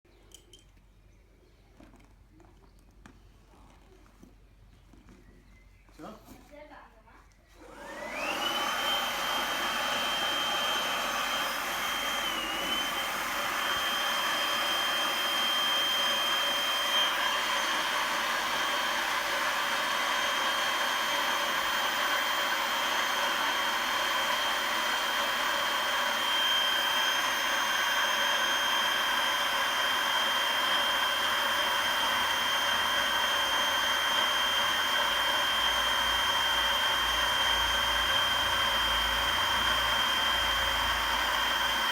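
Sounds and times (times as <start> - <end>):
cordless blower whining: 7.5 - 41.9.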